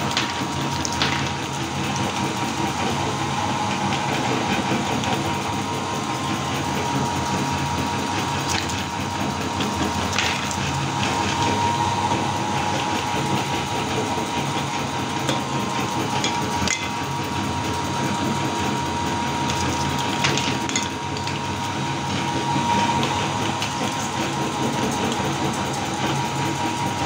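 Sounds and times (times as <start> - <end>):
meat grinder motor humming: 0.0 - 27.0.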